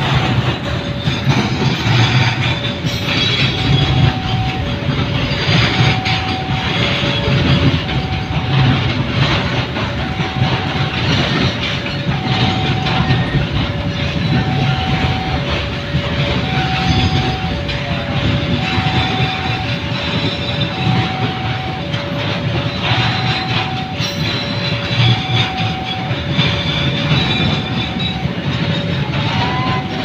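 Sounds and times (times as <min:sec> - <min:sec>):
train wheels clattering on rails: 0:00.0 - 0:30.0
two-note crossing alarm: 0:02.0 - 0:30.0.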